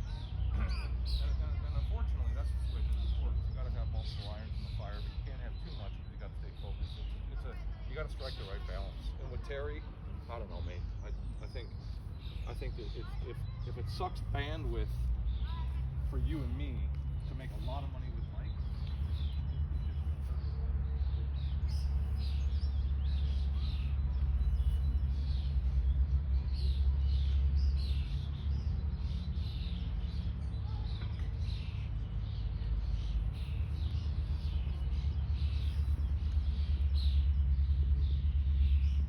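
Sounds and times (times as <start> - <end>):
songbirds chirping: 0.0 - 39.0
steady low rumble: 0.0 - 39.0.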